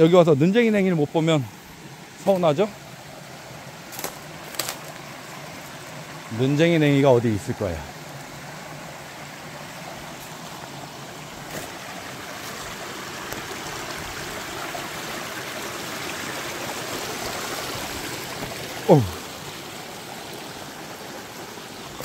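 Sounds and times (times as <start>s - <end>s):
stream running over rocks: 0.0s - 22.0s.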